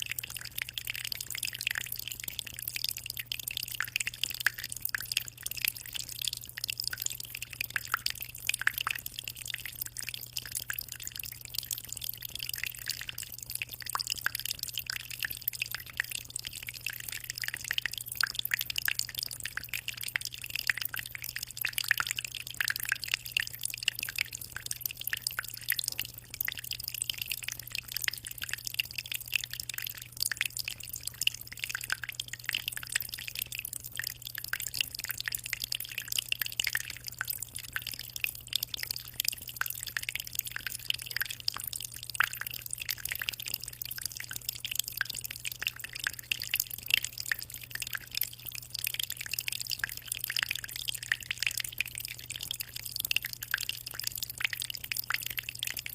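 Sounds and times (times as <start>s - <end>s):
aquarium water trickling: 0.0s - 55.9s.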